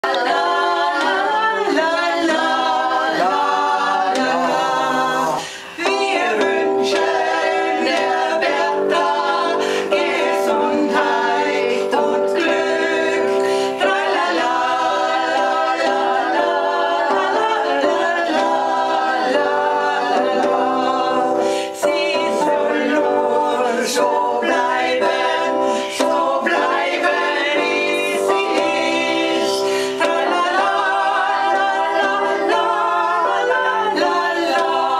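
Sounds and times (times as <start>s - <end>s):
electronic keyboard: 0.0s - 34.9s
women singing together: 0.0s - 34.9s.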